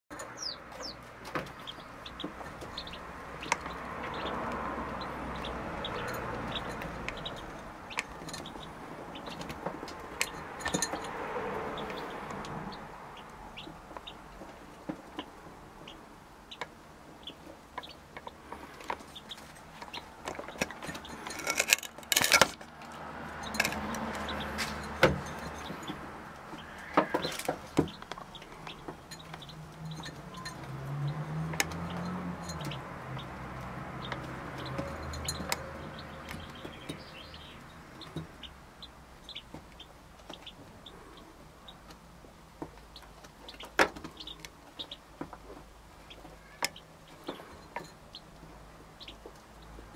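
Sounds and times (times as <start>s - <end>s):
chicks peeping: 0.1s - 21.6s, 22.9s - 49.9s
hen clucking: 0.1s - 21.6s, 23.7s - 30.7s, 31.7s - 42.0s, 42.6s - 49.8s.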